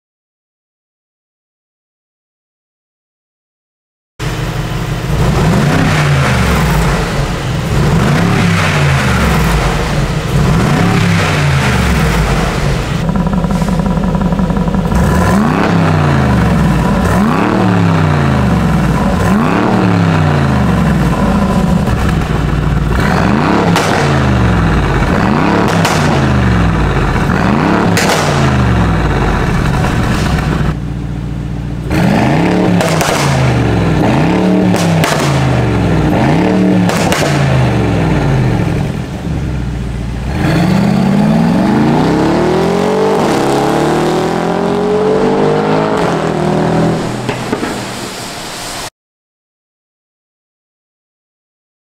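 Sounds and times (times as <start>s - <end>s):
car engine revving: 4.2s - 48.9s.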